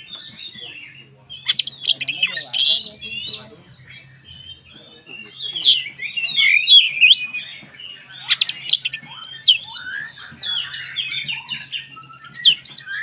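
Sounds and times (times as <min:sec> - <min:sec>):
bird singing whistles and chirps: 0:00.0 - 0:13.0.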